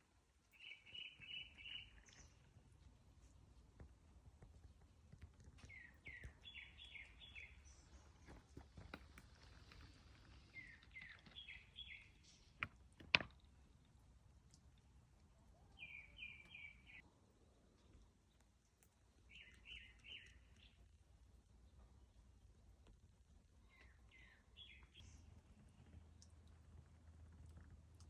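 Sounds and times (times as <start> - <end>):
faint outdoor background noise: 0.0 - 28.0
songbird singing: 0.4 - 3.8, 4.5 - 14.0, 14.6 - 26.4.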